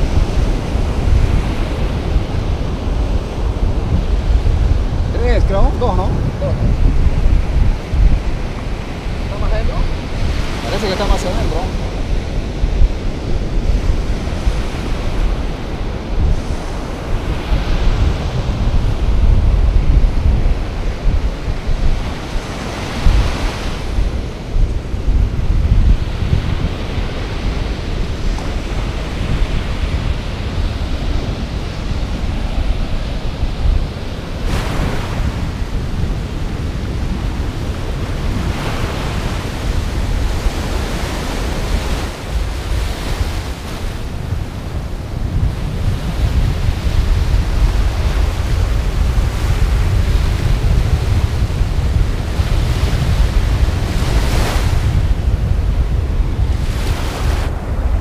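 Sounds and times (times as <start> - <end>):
ocean surf breaking on beach: 0.0 - 58.0
wind buffeting microphone: 0.0 - 58.0.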